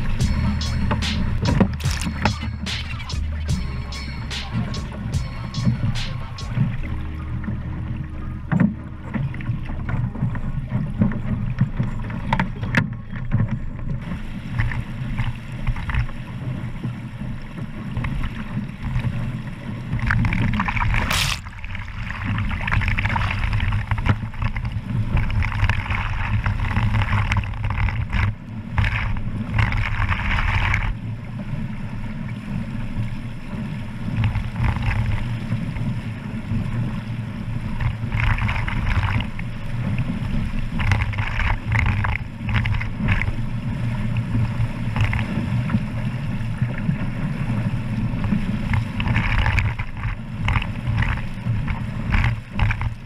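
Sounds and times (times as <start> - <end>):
water splashing along hull: 0.0 - 53.0.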